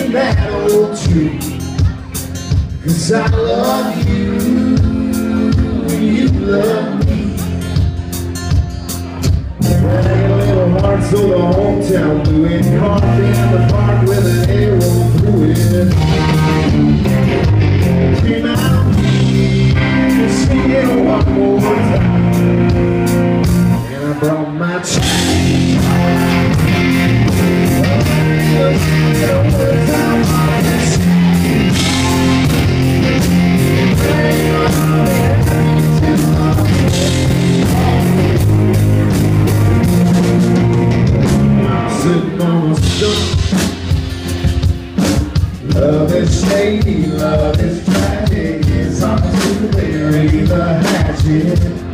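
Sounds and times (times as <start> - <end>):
country-rock band playing: 0.0 - 51.9.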